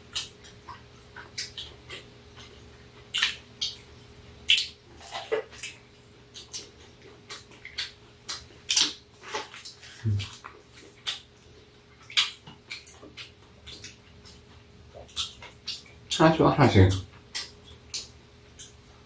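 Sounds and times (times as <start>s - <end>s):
person chewing corn on the cob: 0.0s - 19.0s.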